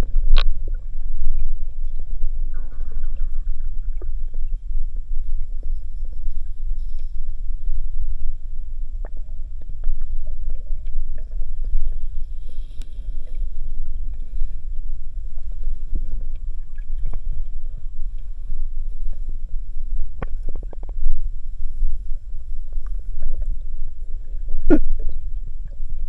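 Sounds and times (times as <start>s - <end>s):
small underwater clicks: 0.0s - 4.6s, 8.9s - 26.0s
underwater rumble of moving water: 0.0s - 26.0s.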